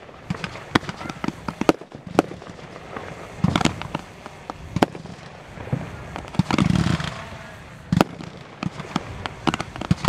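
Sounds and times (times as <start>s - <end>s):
crackling fireworks pops: 0.0s - 10.0s
fireworks bangs and pops: 0.0s - 10.0s.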